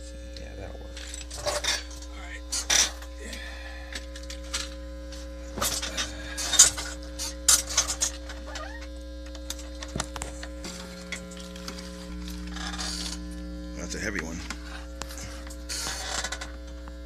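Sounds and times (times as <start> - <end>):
steady electrical hum: 0.0 - 17.0
wire clicks and rattles: 0.4 - 13.4, 14.3 - 16.9.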